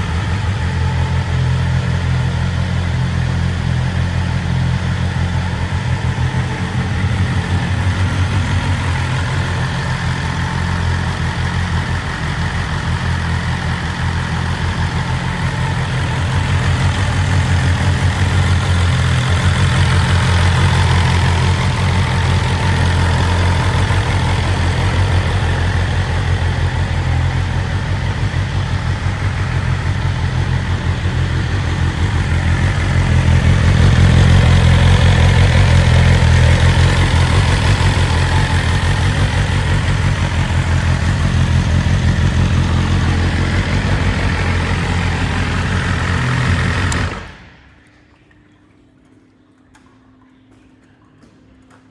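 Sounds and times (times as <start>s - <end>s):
motorcycle engine idling: 0.0s - 47.8s.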